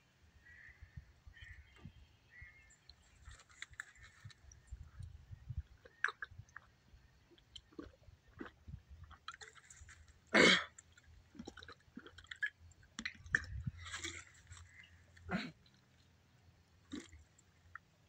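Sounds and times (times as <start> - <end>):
person gulping a drink: 2.9 - 16.2, 16.8 - 18.0.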